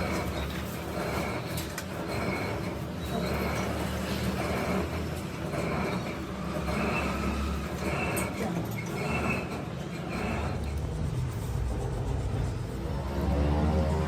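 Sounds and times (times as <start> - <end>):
machine tool cutting metal: 0.0 - 14.0.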